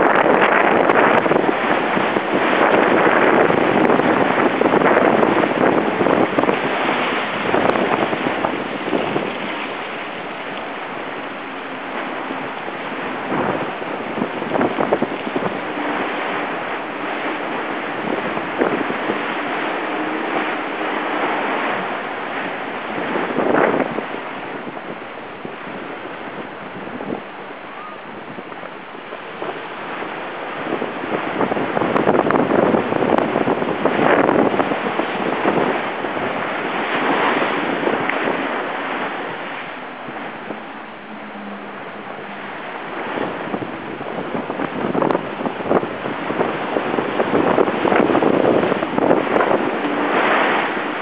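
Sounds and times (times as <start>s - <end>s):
water rushing along hull: 0.0s - 51.0s
water splashes: 0.0s - 51.0s
wind buffeting microphone: 0.0s - 51.0s.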